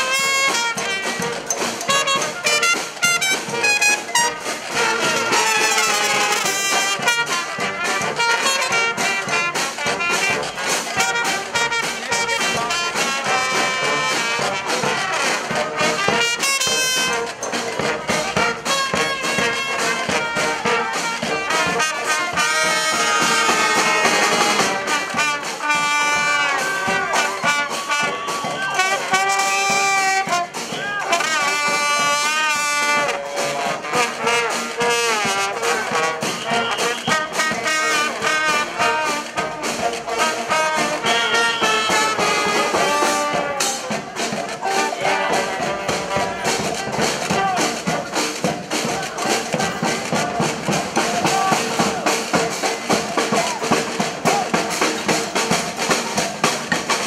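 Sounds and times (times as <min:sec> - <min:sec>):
brass band playing: 0:00.0 - 0:57.0
drum hits: 0:00.0 - 0:57.0.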